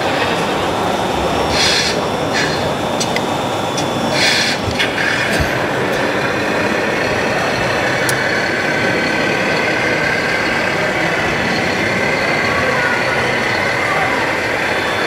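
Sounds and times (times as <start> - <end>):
faint steady whine: 0.0 - 15.0
model truck engine running: 0.0 - 15.0.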